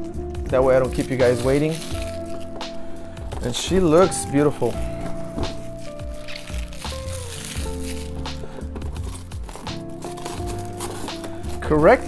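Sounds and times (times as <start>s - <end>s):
background music with held notes: 0.0s - 12.0s
plastic packaging rustling: 0.6s - 12.0s.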